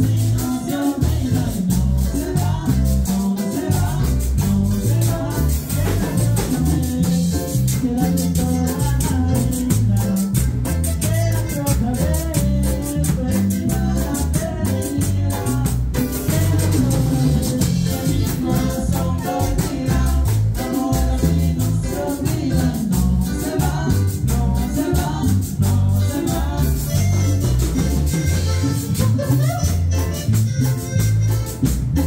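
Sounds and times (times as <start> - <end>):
man singing into microphone: 0.0 - 27.9
congas: 0.0 - 32.0
electric bass: 0.0 - 32.0
keyboard: 0.0 - 32.0.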